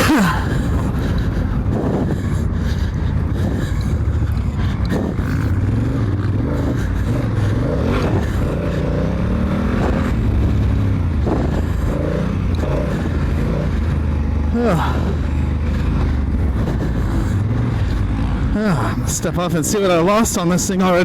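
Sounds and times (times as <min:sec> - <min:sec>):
gearbox shifting: 0:00.0 - 0:20.1
motorcycle engine revving: 0:00.0 - 0:21.0.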